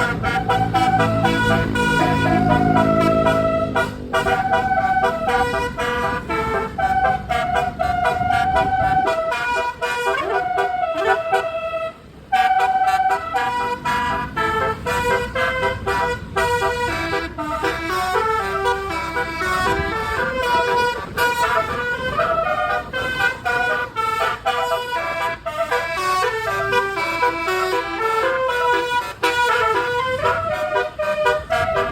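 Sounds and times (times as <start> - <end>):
low engine sound: 0.0 - 31.9
multi-tone bus horn melody: 0.0 - 31.9.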